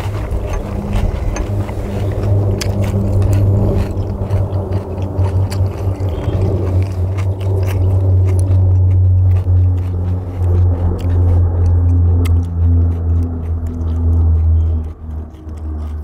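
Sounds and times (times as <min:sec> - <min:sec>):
chewing: 0:00.0 - 0:16.0
steady low hum: 0:00.0 - 0:16.0.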